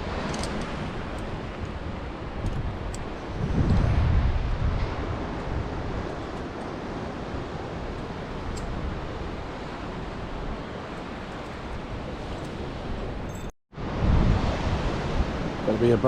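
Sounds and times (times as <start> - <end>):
ocean surf: 0.0 - 16.0
wind rumbling on microphone: 0.0 - 16.0.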